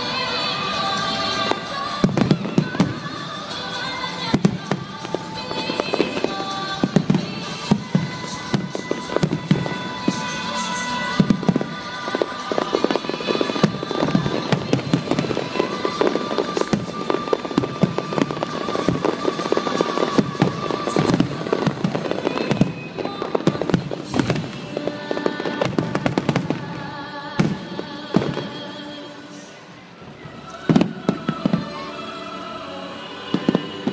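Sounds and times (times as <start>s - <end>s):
music playing: 0.0s - 33.9s.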